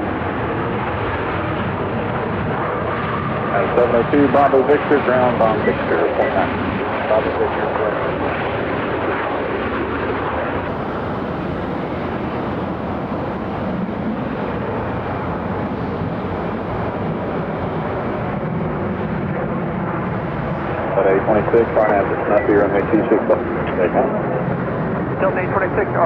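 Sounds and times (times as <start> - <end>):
jet airliner engine rush: 0.0 - 26.0.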